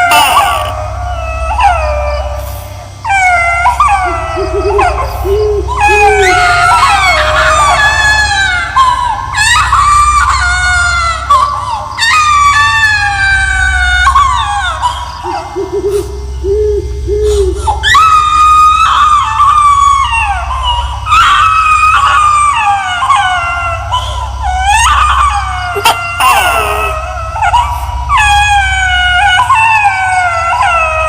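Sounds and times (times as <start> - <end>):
high-pitched wailing cries: 0.0 - 31.0
low droning hum: 0.0 - 31.0.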